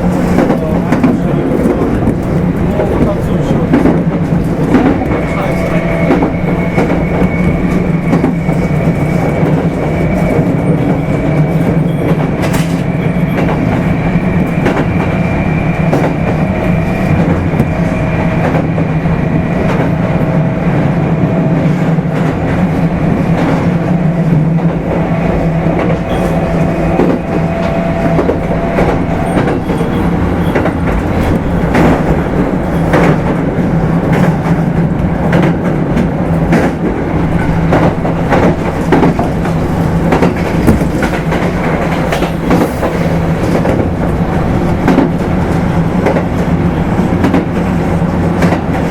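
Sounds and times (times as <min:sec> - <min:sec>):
rail joint clicks: 0:00.0 - 0:48.9
train motor hum and whine: 0:00.0 - 0:48.9
wheels rumbling on rail: 0:00.0 - 0:48.9.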